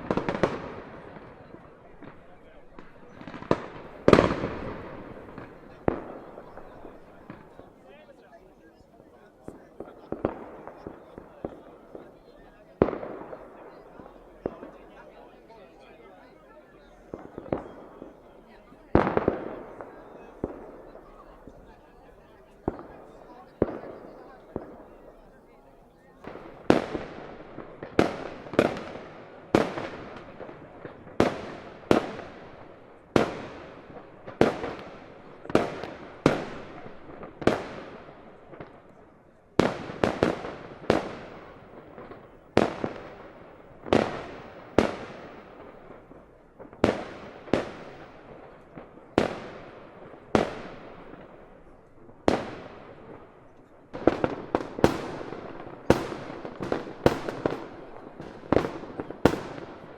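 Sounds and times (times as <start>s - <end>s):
fireworks banging with echo: 0.0s - 59.9s.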